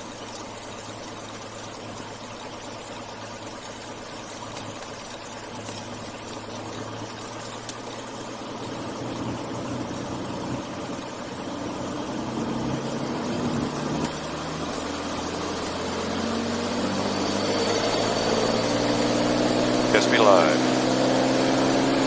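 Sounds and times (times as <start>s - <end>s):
airplane piston engine: 0.0s - 22.0s.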